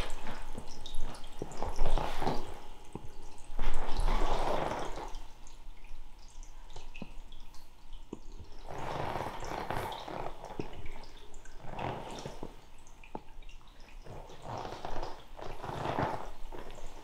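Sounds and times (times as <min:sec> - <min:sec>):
water drips: 0:00.0 - 0:17.0.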